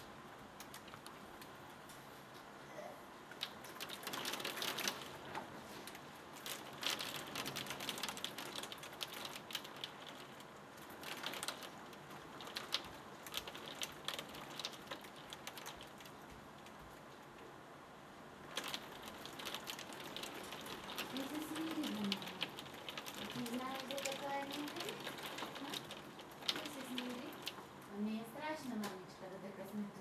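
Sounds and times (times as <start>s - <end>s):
rain clicking on window glass: 0.0s - 2.5s, 3.2s - 29.6s
steady wash of rain: 0.0s - 29.7s.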